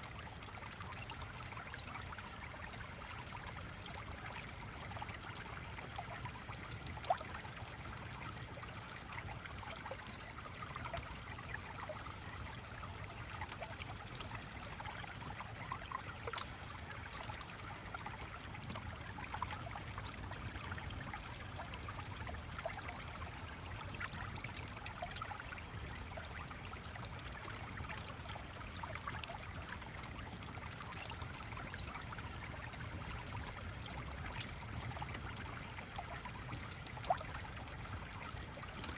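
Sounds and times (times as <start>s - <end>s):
stream flowing and trickling: 0.0s - 38.9s.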